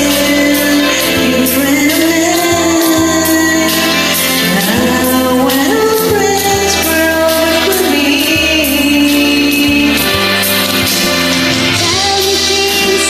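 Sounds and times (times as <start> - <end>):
woman singing: 0.0 - 10.2, 11.5 - 13.0
karaoke backing track: 0.0 - 13.0.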